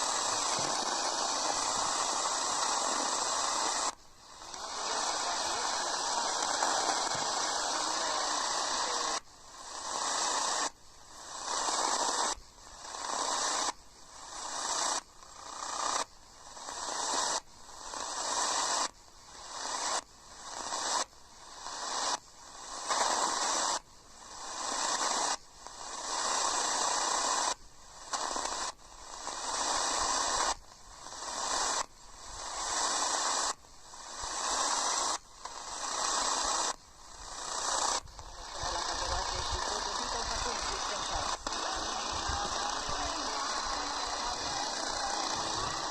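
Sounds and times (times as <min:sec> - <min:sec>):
radio static hissing: 0:00.0 - 0:45.9.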